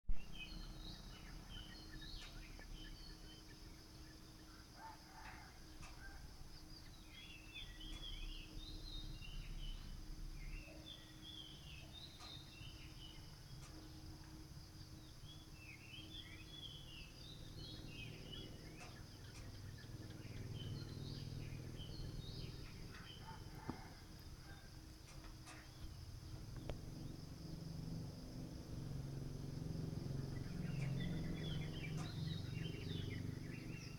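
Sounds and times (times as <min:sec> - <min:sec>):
faint low rumble: 0:00.1 - 0:33.9
birds chirping: 0:00.2 - 0:33.9
high insect drone: 0:00.2 - 0:33.9.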